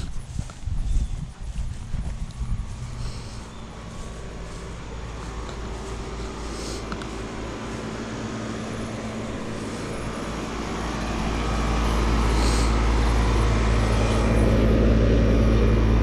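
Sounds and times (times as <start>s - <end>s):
air conditioner unit humming: 0.0s - 16.0s.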